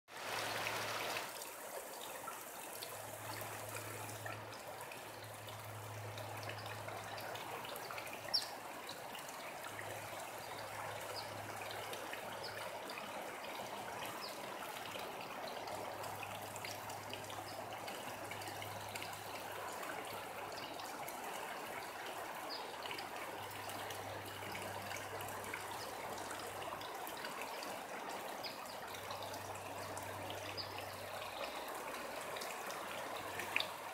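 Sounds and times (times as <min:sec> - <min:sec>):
rainwater trickling: 0:00.1 - 0:33.9
small water drips: 0:00.1 - 0:33.9.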